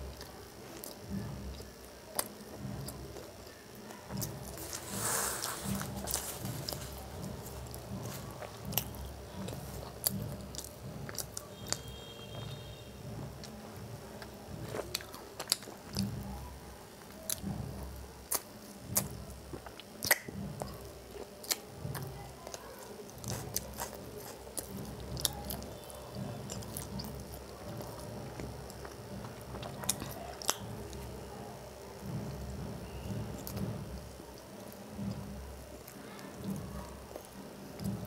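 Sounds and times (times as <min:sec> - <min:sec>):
person chewing: 0:00.0 - 0:12.8, 0:13.4 - 0:31.2.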